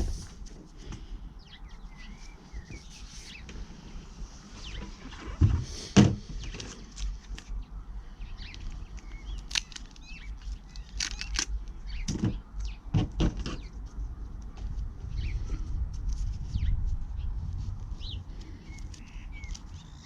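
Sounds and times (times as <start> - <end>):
faint birds chirping: 0.0 - 15.8, 16.4 - 20.0.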